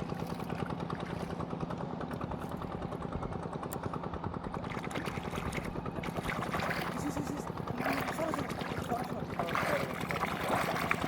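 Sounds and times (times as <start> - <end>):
small boat engine chugging: 0.0 - 11.0.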